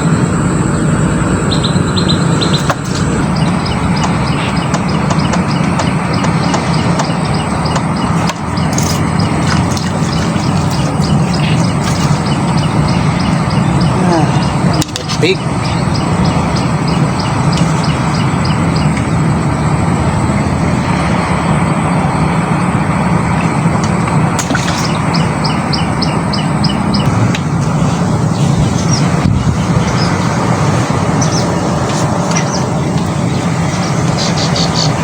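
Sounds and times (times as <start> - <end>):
steady low rumble: 0.0 - 35.0
bird chirping rapidly: 0.6 - 20.0, 23.3 - 35.0.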